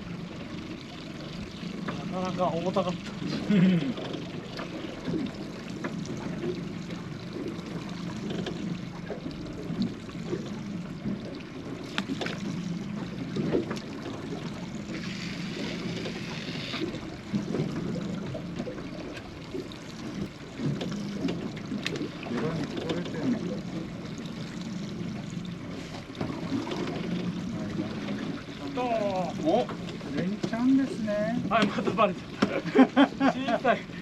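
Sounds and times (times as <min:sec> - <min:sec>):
water lapping against boat hull: 0:00.0 - 0:34.0.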